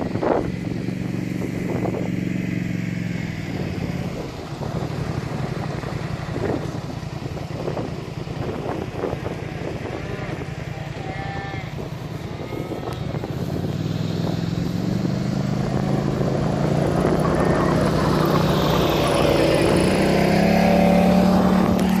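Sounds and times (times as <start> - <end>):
all-terrain vehicle engine: 0.0 - 22.0
wind on microphone: 3.5 - 22.0.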